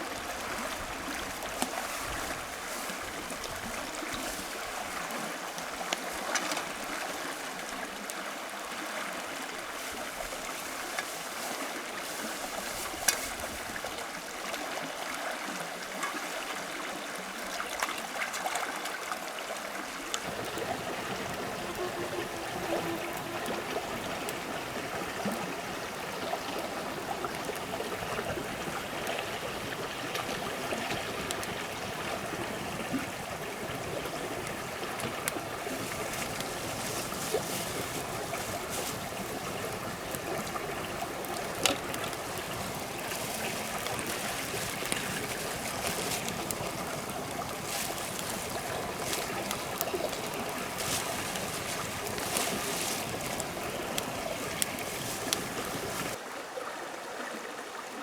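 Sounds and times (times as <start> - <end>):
flowing stream rushing: 0.0 - 58.0.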